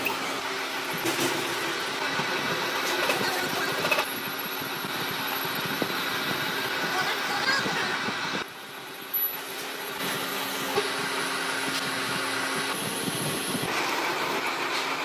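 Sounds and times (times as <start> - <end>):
workshop machinery running: 0.0 - 15.0.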